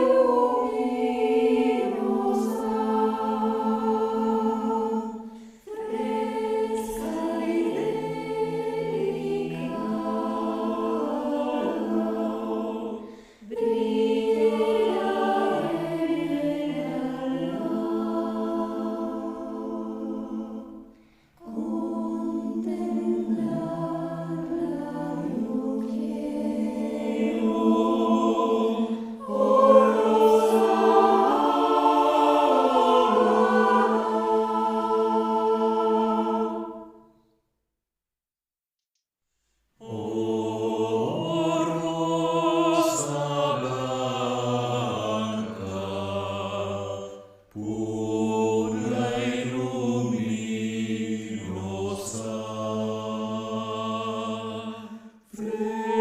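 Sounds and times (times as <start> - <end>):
a cappella choir singing chords: 0.0 - 37.4, 39.5 - 56.0.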